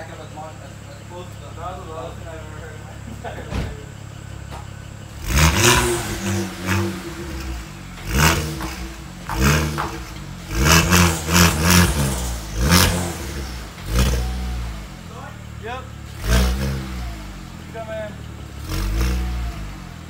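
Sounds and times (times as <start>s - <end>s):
car engine idling: 0.0s - 20.0s
engine revving: 3.5s - 20.0s.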